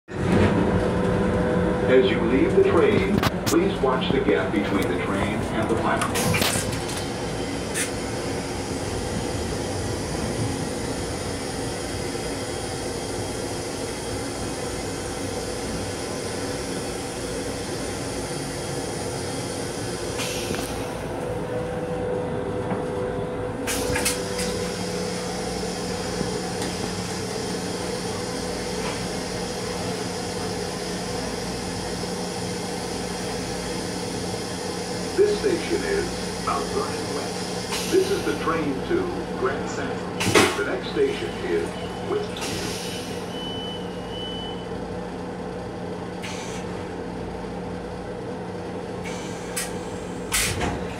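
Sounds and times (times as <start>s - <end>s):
electric railcar hum and rumble: 0.1s - 50.9s.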